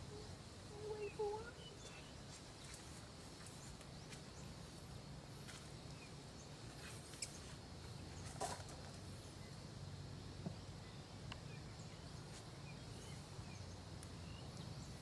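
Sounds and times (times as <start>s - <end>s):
faint bird chirps: 0.0s - 4.7s, 5.6s - 15.0s.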